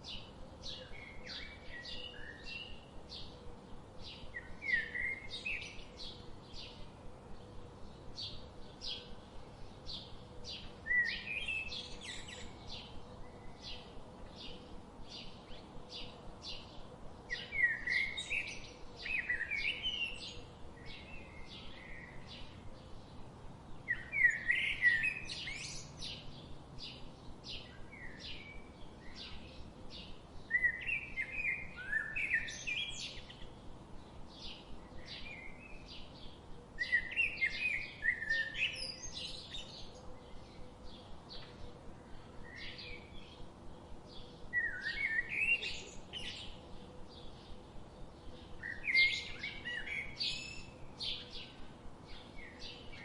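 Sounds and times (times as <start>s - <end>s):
songbirds chirping: 0.0s - 53.0s
bird warbling song: 4.0s - 23.2s, 23.8s - 53.0s.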